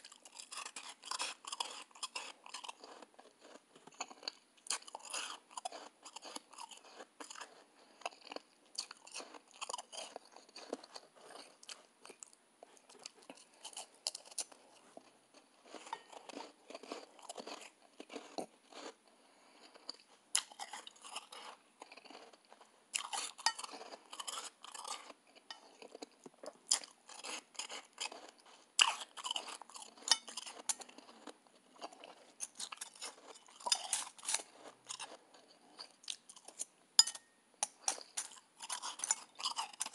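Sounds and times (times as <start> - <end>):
crunching ice chewing: 0.0 - 39.9.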